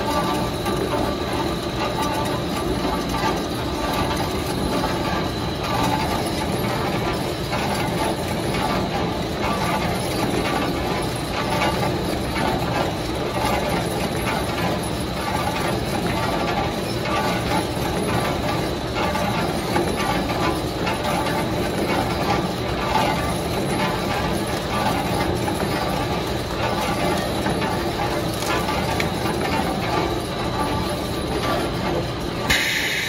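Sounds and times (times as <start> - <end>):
stretch wrapper machine running: 0.0 - 32.7.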